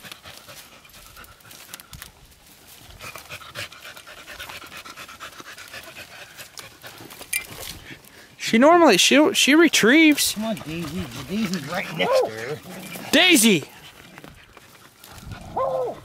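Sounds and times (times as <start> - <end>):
dog panting and sniffing: 0.0 - 2.1, 2.7 - 8.4, 9.4 - 15.6
twigs and dry leaves crackling: 0.0 - 4.7, 5.4 - 16.0.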